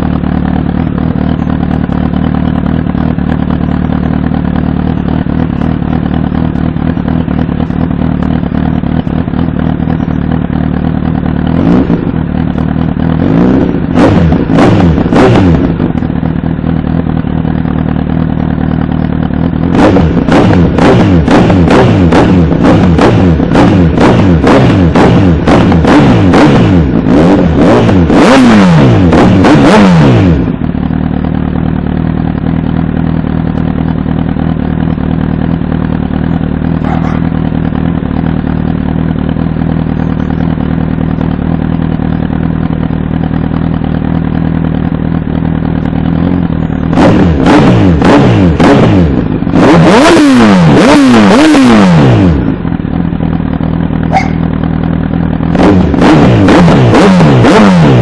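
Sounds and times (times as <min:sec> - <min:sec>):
motorcycle engine idling: 0:00.0 - 0:58.0
motorcycle engine revving: 0:00.0 - 0:58.0.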